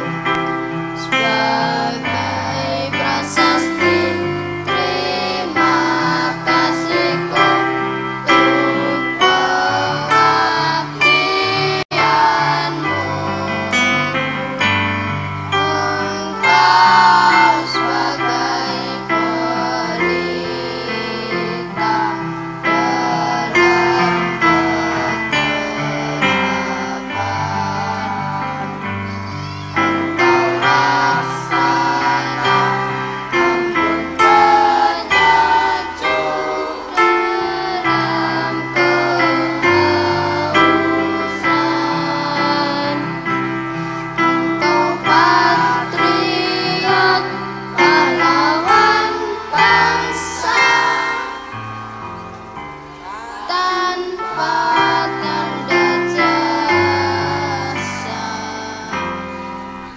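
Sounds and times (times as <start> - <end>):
electric keyboard: 0.0 - 59.9
girls choir singing: 0.0 - 59.9.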